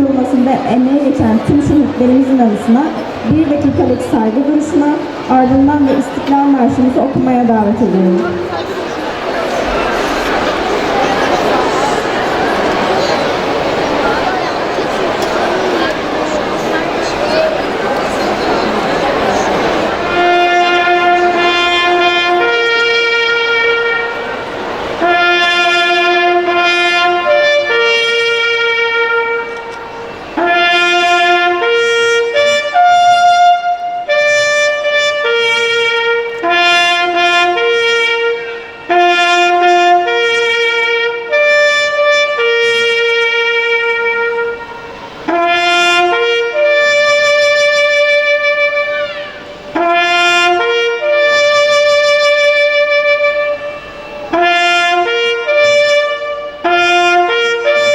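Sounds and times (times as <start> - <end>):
solo trumpet slow melody: 9.4 - 57.9.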